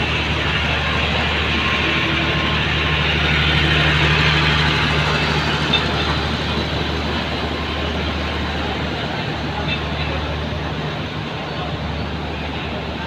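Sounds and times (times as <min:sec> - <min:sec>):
diesel generators humming: 0:00.0 - 0:13.0.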